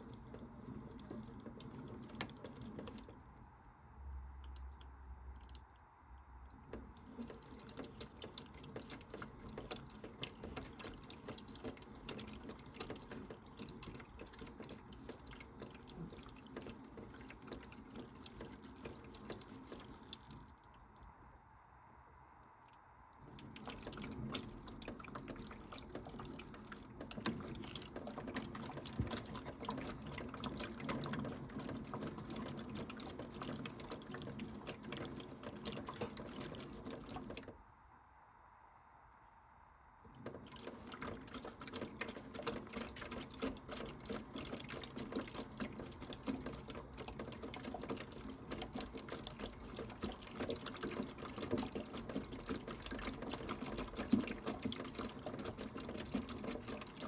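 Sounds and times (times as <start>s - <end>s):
toy washing machine running: 0.0s - 3.2s, 6.7s - 20.4s, 23.2s - 37.5s, 40.2s - 57.0s
water sloshing and splashing: 0.0s - 21.2s, 23.1s - 37.6s, 40.1s - 57.0s.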